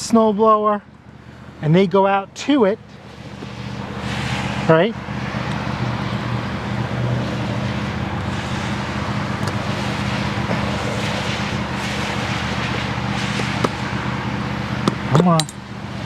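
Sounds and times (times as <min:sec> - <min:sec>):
machine drone with low hum: 0:00.0 - 0:16.0.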